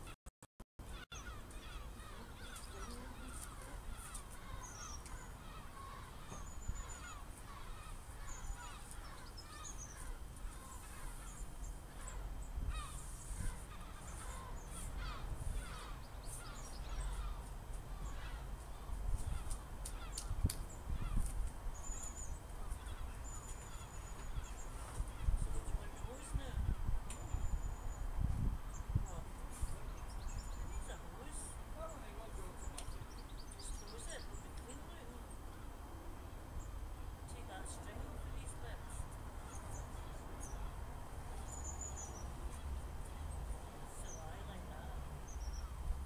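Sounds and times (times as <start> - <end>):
birds chirping: 0.8 - 46.0
low wind rumble on microphone: 1.6 - 46.0.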